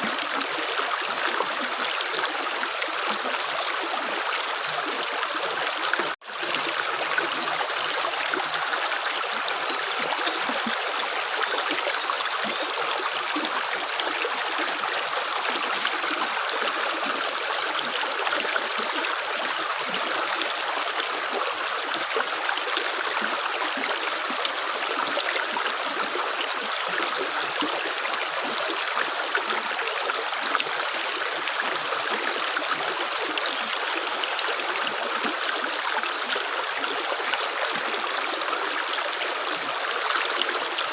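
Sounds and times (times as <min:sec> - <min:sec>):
water rushing stream: 0:00.0 - 0:40.9.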